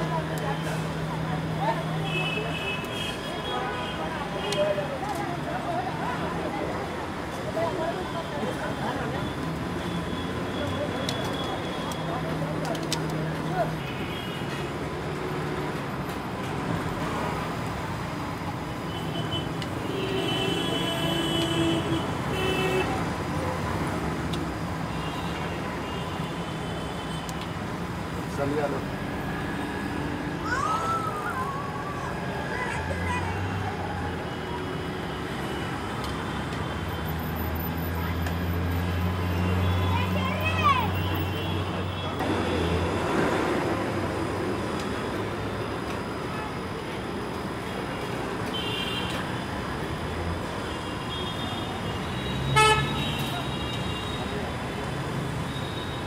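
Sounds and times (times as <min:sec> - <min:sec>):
city street traffic rumble: 0:00.0 - 0:56.0.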